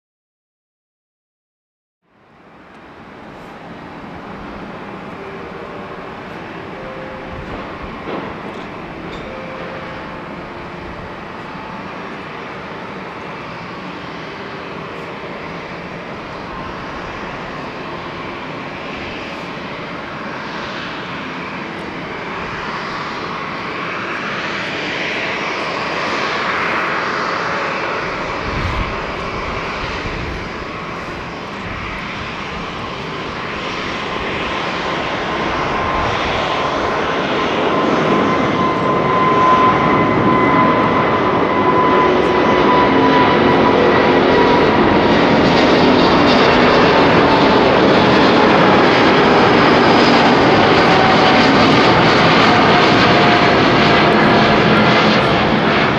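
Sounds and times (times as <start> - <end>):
steady jet whine: 2.1 - 55.9
jet airliner taking off: 2.2 - 55.9.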